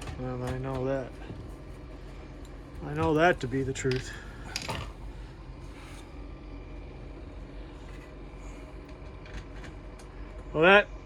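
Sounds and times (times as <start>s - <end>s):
gas heater humming: 0.0s - 11.0s.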